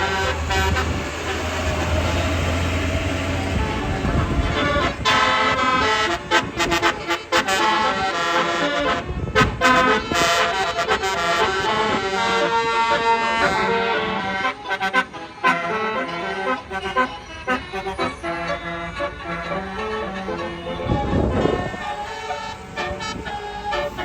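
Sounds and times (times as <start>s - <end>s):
bus horn playing a melody: 0.0s - 24.0s.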